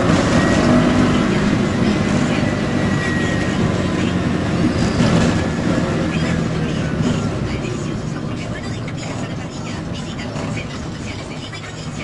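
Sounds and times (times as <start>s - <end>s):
road noise: 0.0s - 12.0s
wind: 0.0s - 12.0s.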